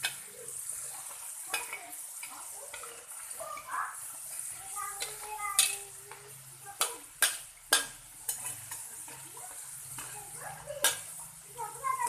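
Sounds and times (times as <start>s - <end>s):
utensil striking a pan: 0.0s - 3.7s, 4.7s - 12.0s
potatoes sizzling in oil: 0.0s - 12.0s.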